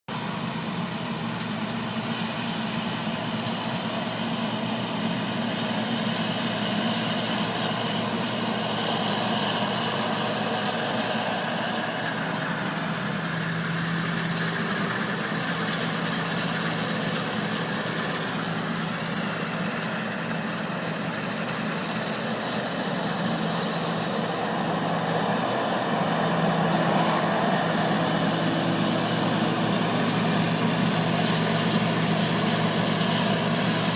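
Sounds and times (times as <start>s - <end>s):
combine harvester engine drone: 0.1s - 33.9s.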